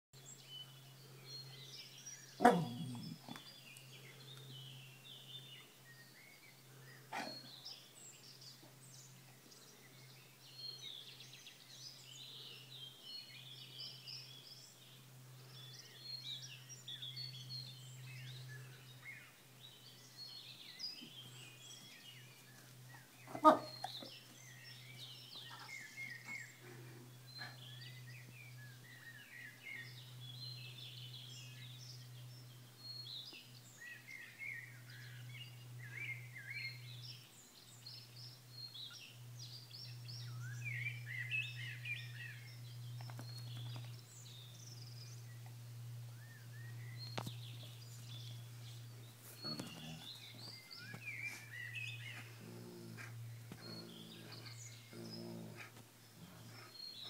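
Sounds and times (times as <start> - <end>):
birds chirping and singing: 0.2 - 57.0
steady low hum: 0.2 - 57.0.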